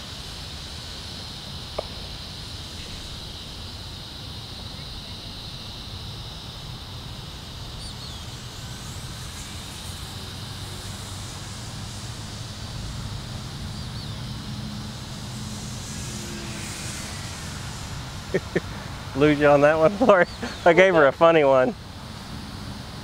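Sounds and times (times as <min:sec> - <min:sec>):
model plane electric motor: 0:00.0 - 0:23.0.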